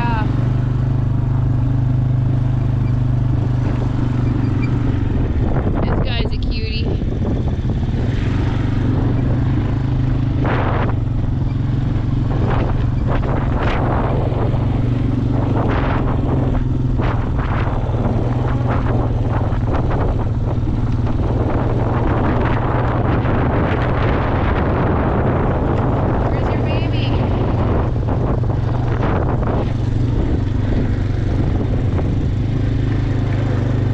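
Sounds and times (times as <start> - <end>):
engine running at low pitch: 0.0 - 33.9.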